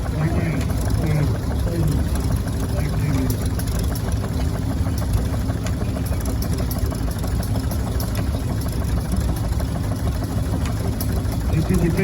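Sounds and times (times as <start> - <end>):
farm engine running: 0.0 - 12.0.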